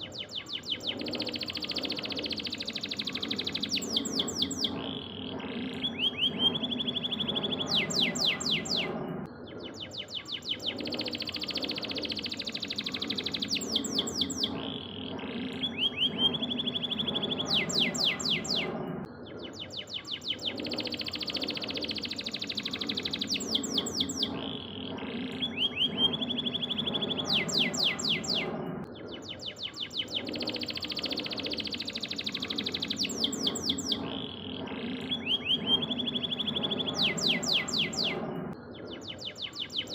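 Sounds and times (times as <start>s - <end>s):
canary singing: 0.0s - 9.1s, 9.7s - 18.9s, 19.5s - 39.9s.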